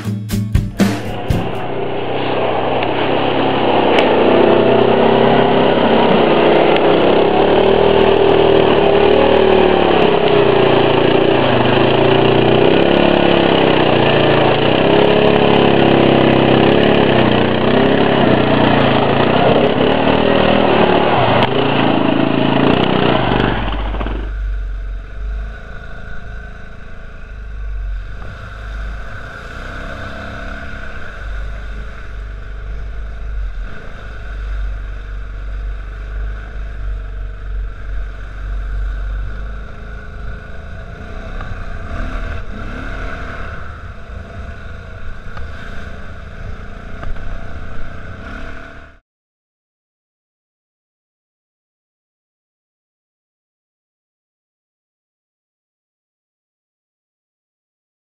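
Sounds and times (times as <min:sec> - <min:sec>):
atv engine running: 0:00.0 - 0:49.0.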